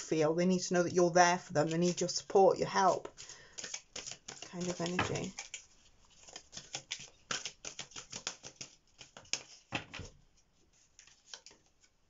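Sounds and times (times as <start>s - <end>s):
cards being shuffled: 1.6s - 12.0s.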